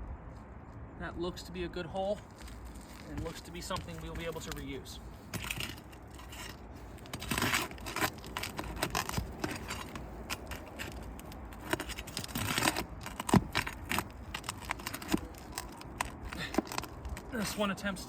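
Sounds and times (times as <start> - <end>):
shingles scraping and crinkling: 2.1 - 18.0.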